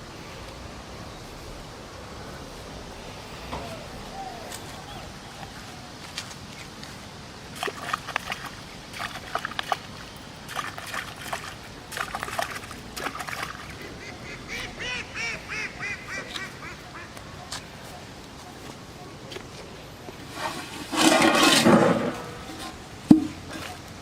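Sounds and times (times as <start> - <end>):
bird calling: 0.0 - 10.5, 11.6 - 23.9.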